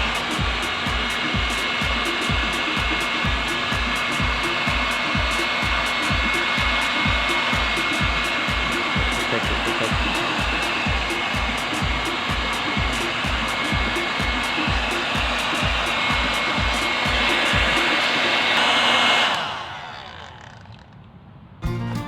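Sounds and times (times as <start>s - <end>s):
music with a steady beat: 0.0s - 18.6s, 21.6s - 22.0s
small motor fan whirring: 0.0s - 21.4s.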